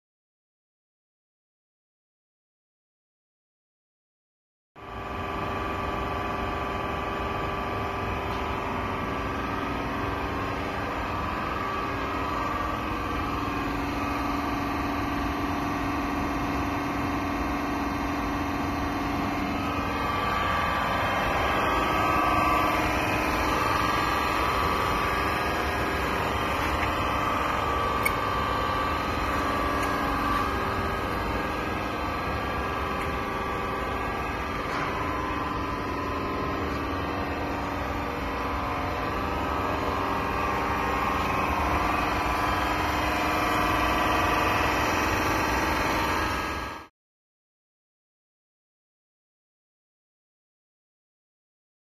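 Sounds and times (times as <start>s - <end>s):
balancing machine humming and whining: 4.8s - 46.9s.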